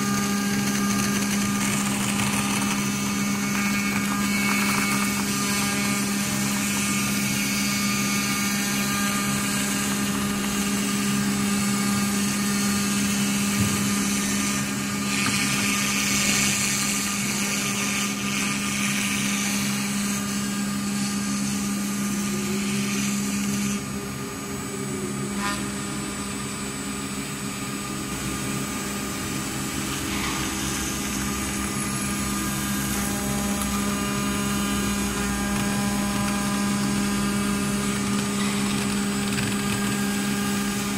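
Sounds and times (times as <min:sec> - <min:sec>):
router cutter milling metal: 0:00.0 - 0:40.9
spindle pitched hum: 0:00.0 - 0:40.9.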